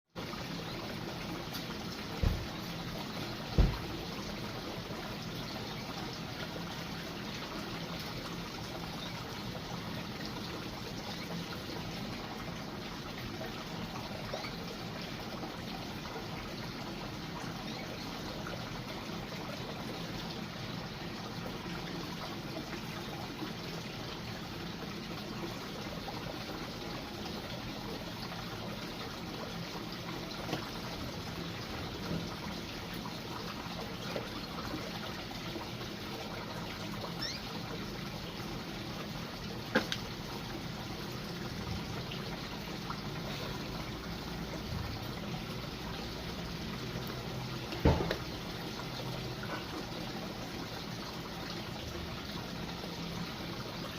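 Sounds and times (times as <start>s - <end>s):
water trickling: 0.2s - 53.9s.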